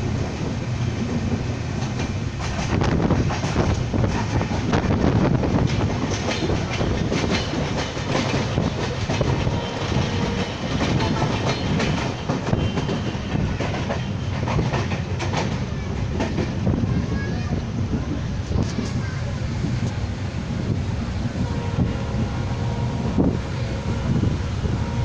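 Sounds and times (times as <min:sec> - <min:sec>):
train wheels clattering over rails: 0:00.0 - 0:20.8.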